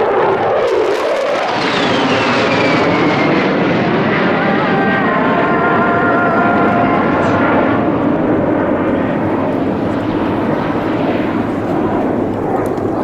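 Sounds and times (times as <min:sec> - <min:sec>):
jet engine high whine: 0:00.0 - 0:13.0
jet engine rush: 0:00.0 - 0:13.0.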